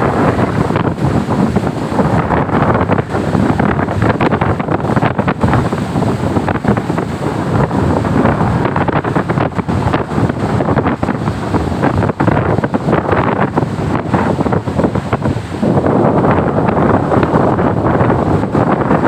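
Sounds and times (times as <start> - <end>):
heavy surf rushing: 0.0 - 19.0
wind buffeting microphone: 0.0 - 19.0.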